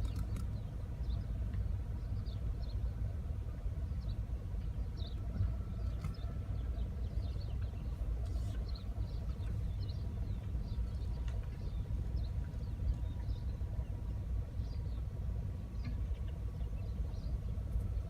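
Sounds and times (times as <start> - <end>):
low vehicle rumble: 0.0 - 18.0.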